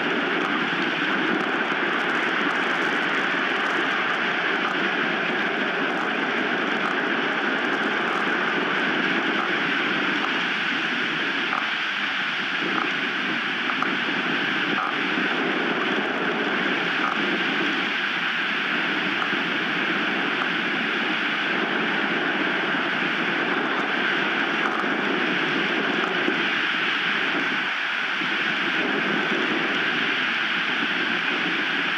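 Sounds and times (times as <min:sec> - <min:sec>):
strong wind on microphone: 0:00.0 - 0:31.9.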